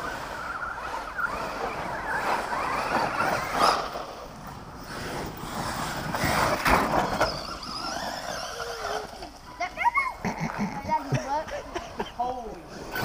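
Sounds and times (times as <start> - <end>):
rc car motor whine: 0.0 - 13.0
tyres on dirt track: 0.0 - 13.0.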